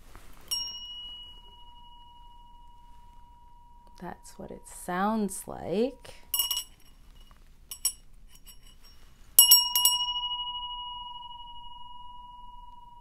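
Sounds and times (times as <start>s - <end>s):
light bell clinks: 0.5s - 13.0s
metal wind chime bell ringing: 0.5s - 13.0s.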